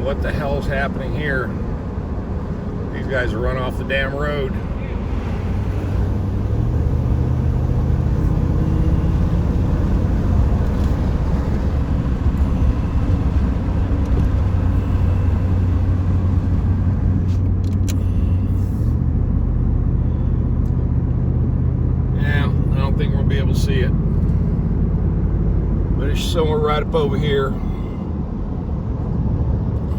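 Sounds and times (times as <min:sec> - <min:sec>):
car engine and road noise: 0:00.0 - 0:29.9.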